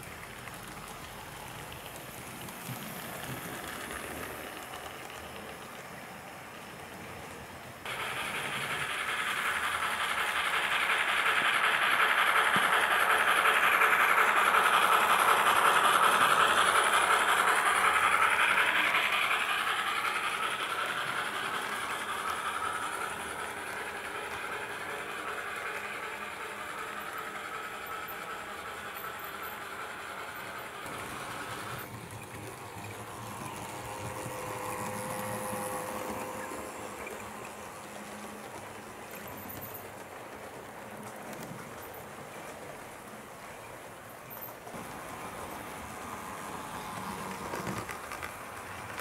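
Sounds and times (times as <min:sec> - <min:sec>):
model train running past: 0:00.0 - 0:49.0.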